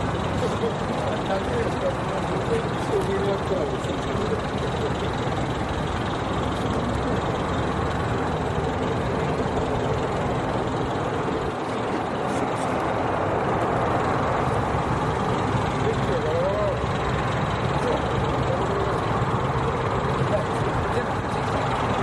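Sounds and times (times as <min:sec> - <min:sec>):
aircraft engine roaring: 0:00.0 - 0:22.0.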